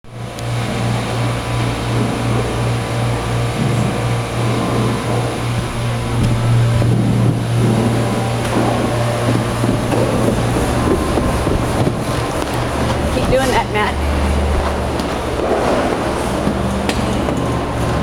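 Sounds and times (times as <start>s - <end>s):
machinery humming: 0.0s - 18.0s
noisy rush: 0.1s - 18.0s.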